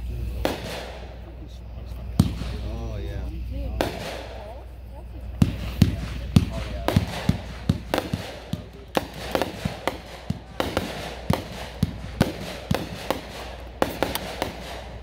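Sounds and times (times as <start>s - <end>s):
fireworks bangs: 0.0s - 15.0s
fireworks crackle: 0.0s - 15.0s.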